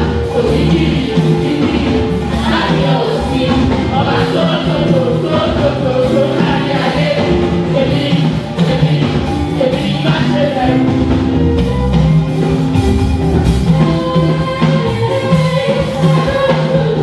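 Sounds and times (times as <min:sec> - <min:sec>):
choir singing gospel song: 0:00.0 - 0:17.0
drums and instruments: 0:00.0 - 0:17.0.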